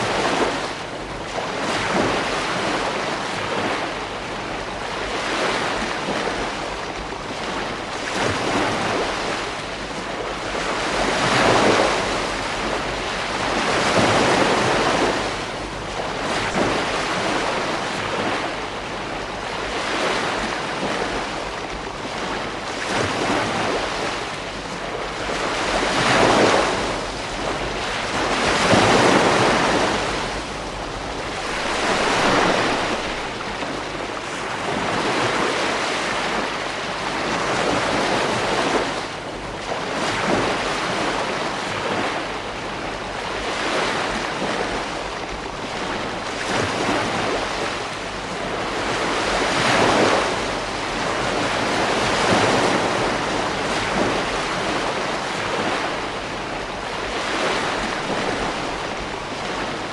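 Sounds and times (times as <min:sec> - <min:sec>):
waves breaking on a beach: 0:00.0 - 0:59.9
wind noise on microphone: 0:00.0 - 0:59.9.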